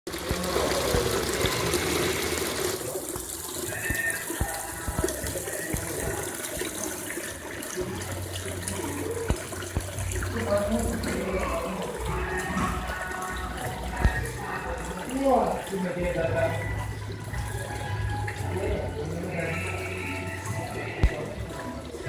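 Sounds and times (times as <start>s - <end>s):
fountain water splashing: 0.1s - 22.0s.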